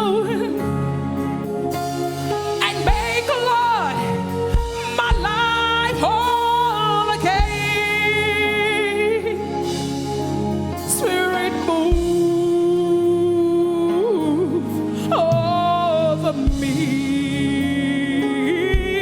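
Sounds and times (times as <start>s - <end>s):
instrumental backing: 0.0s - 19.0s.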